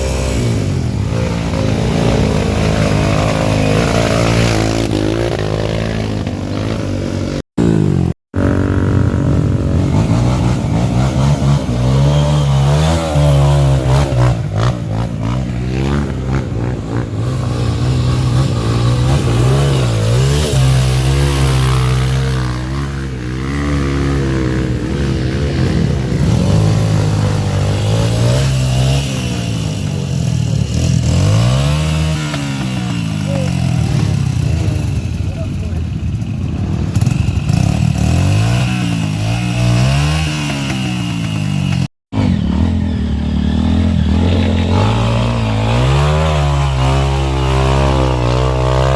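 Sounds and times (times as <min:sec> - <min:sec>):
dirt bike engines revving: 0:00.0 - 0:48.9.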